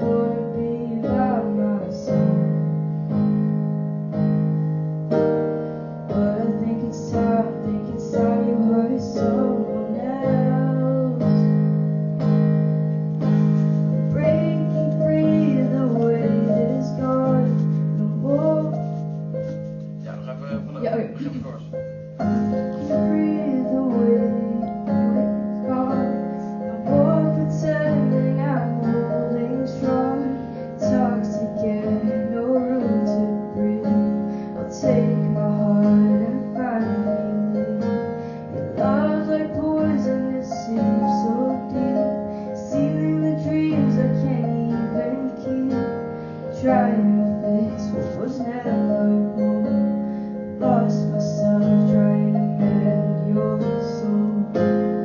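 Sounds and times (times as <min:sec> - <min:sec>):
piano playing held chords: 0:00.0 - 0:55.0.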